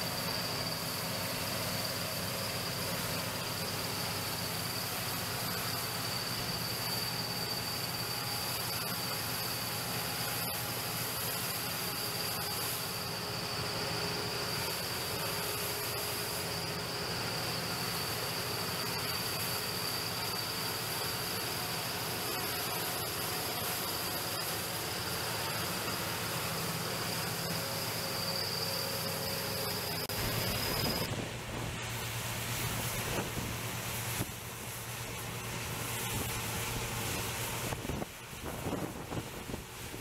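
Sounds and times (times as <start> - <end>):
high-pitched machine whine: 0.0 - 40.0.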